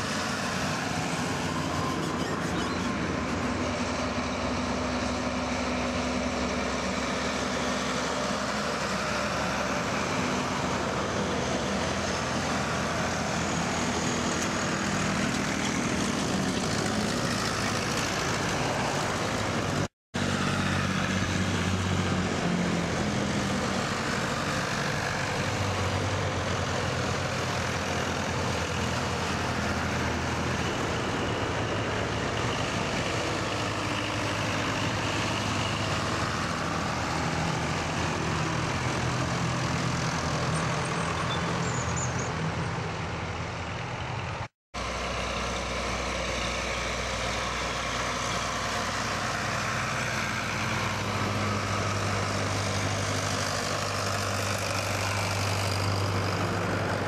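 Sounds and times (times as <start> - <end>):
tractors driving past: 0.0 - 57.0.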